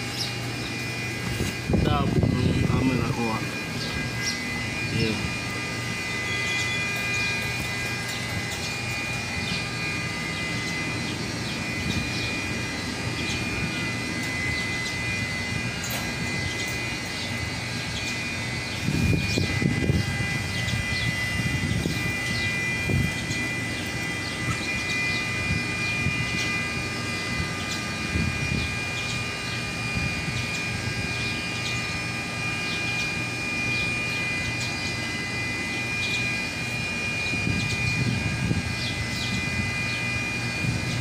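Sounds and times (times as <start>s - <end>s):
mechanical drone with high whine: 0.0s - 41.0s.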